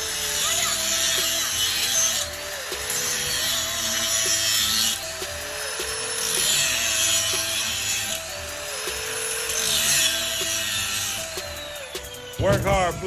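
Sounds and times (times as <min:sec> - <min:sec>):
background music: 0:00.0 - 0:13.0
power tool cutting metal: 0:00.0 - 0:13.0.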